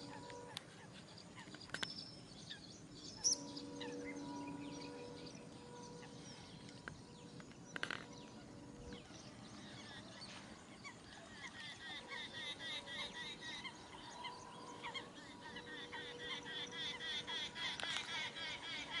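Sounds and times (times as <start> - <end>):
birds chirping: 0.0 - 19.0
faint steady hum: 0.0 - 19.0
sharp loud bird calls: 0.0 - 19.0.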